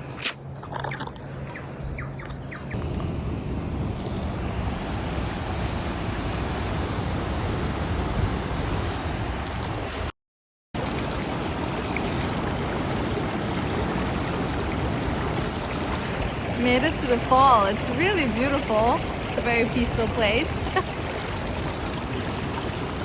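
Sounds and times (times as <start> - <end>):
rushing water: 2.8 - 10.1, 10.8 - 23.0.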